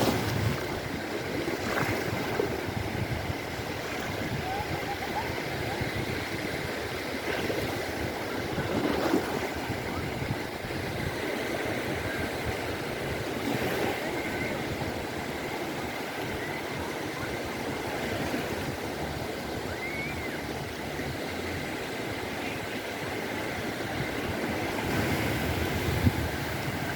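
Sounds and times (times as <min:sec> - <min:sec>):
sea waves breaking on a beach: 0:00.0 - 0:26.9.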